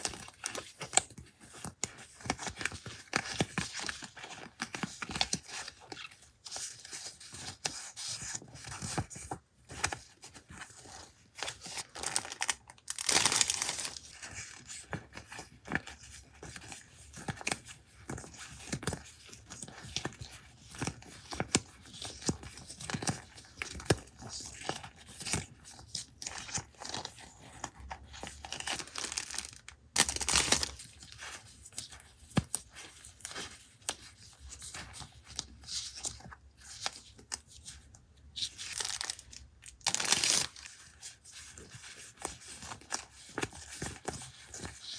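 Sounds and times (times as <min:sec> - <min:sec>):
paper crinkling and rustling: 0:00.0 - 0:44.9.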